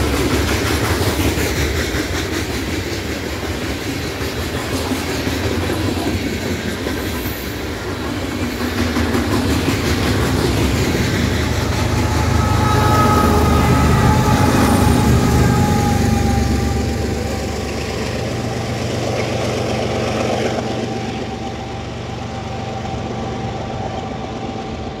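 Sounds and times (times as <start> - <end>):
diesel locomotive engine: 0.0 - 25.0
train wheels clattering over rails: 0.0 - 25.0.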